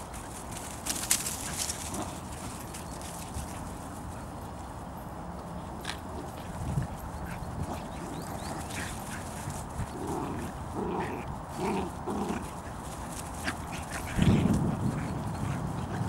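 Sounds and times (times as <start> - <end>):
dogs play-fighting: 0.0 - 16.0.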